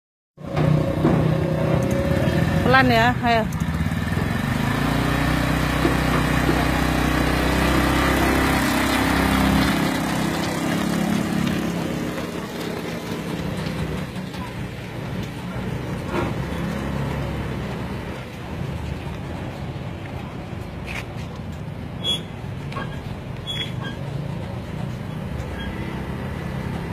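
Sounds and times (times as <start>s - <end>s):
quad bike engine pulling away: 0.4s - 18.9s, 22.9s - 26.9s.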